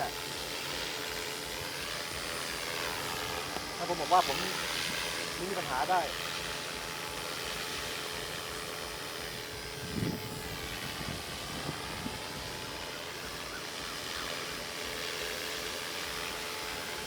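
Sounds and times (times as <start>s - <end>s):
model aircraft motor whine: 0.0s - 17.0s.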